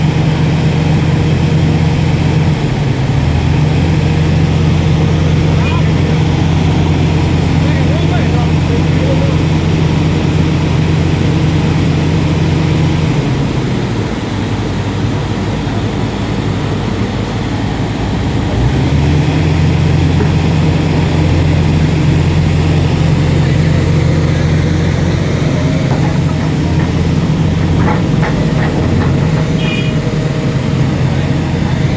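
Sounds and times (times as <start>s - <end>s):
small engine running: 0.0s - 31.9s.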